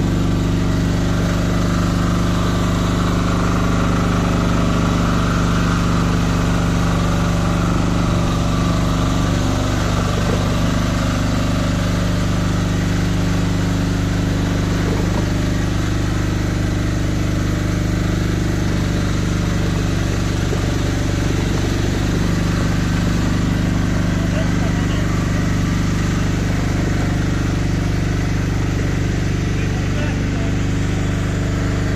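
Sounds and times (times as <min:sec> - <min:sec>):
power pack engine running: 0:00.0 - 0:31.9.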